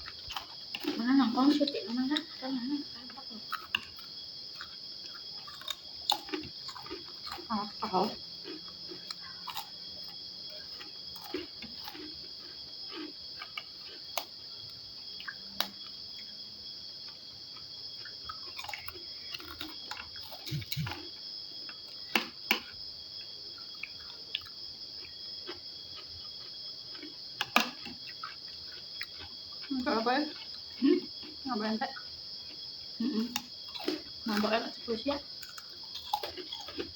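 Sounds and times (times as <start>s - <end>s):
chewing food: 0.0s - 36.9s
crickets trilling: 0.0s - 36.9s.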